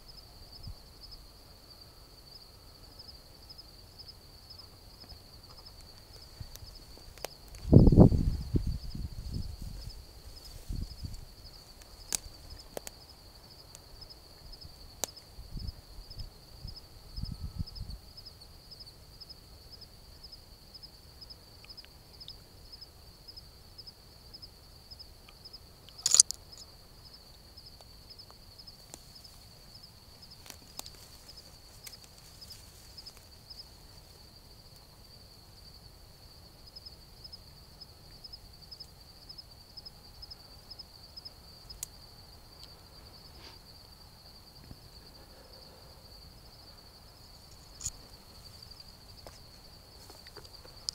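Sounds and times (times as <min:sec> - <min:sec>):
insects chirping in a trill: 0:00.0 - 0:50.9.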